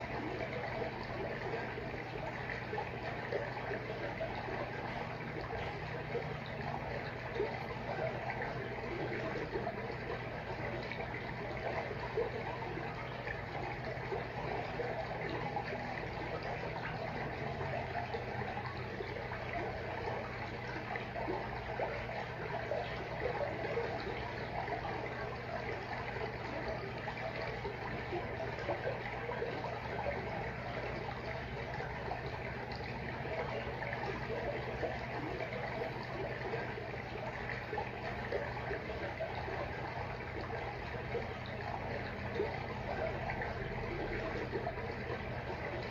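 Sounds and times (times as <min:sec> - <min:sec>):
water trickling and bubbling: 0:00.0 - 0:45.9.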